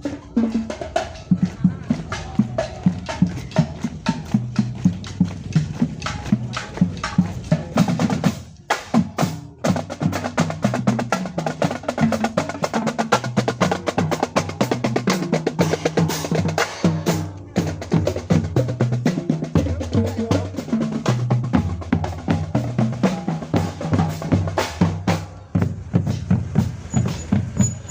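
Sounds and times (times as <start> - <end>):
fast percussion music: 0.0 - 27.9.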